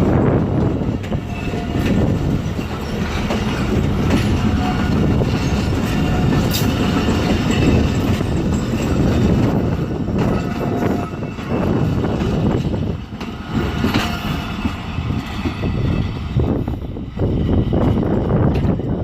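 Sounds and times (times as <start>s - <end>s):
train wheels rumbling over rail joints: 0.0s - 19.0s.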